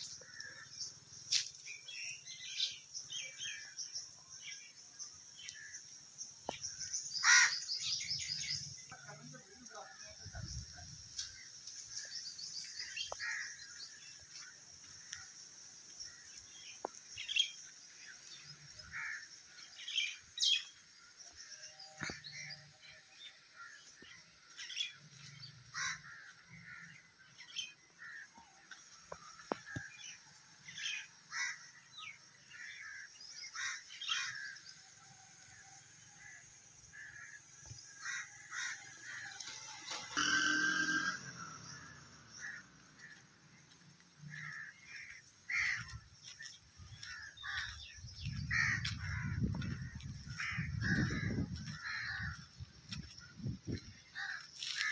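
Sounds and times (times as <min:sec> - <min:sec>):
birds chirping: 0:00.0 - 0:34.9, 0:36.1 - 0:54.9.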